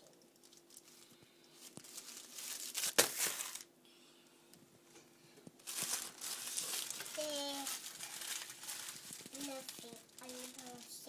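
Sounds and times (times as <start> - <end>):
wrapping paper crinkling and tearing: 0.0 - 3.7, 5.6 - 11.0.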